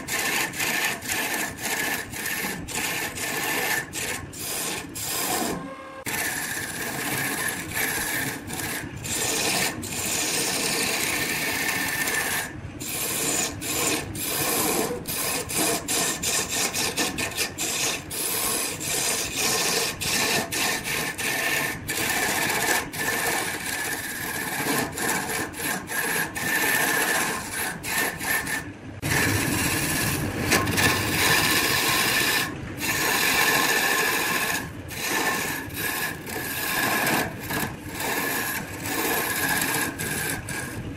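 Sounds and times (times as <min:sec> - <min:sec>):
lathe tool scraping wood: 0:00.0 - 0:40.9.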